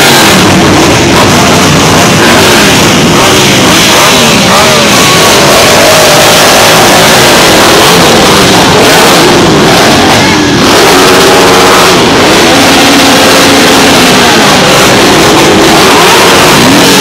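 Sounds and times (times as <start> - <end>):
car engine revving: 0.0 - 17.0
motorcycle engine revving: 0.0 - 17.0.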